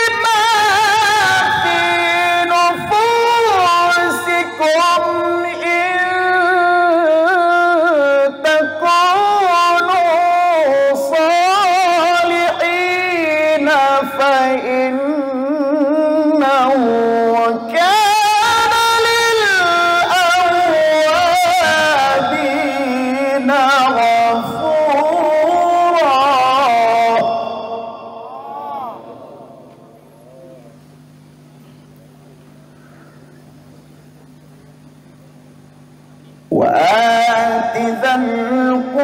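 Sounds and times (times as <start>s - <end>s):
man reciting melodically: 0.0s - 30.8s, 36.5s - 39.0s.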